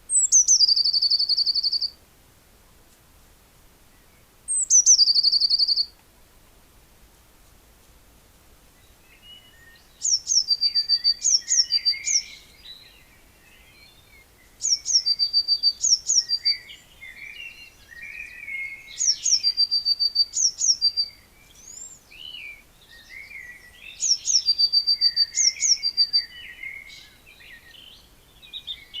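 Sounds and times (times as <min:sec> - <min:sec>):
songbird whistling phrase: 0:00.1 - 0:02.0, 0:04.5 - 0:05.9, 0:09.1 - 0:29.0.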